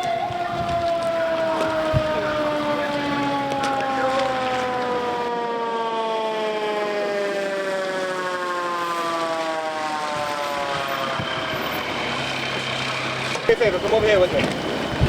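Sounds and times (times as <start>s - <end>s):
siren wail falling in pitch: 0.0s - 15.0s.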